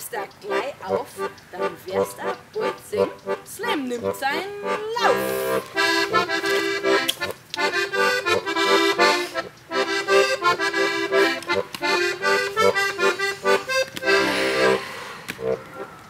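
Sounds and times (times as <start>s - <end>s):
accordion playing chords: 0.0s - 16.0s.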